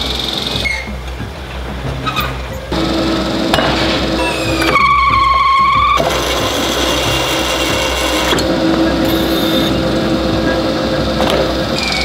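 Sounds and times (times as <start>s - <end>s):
pottery machines running: 0.0s - 12.0s
steady hum: 0.0s - 12.0s.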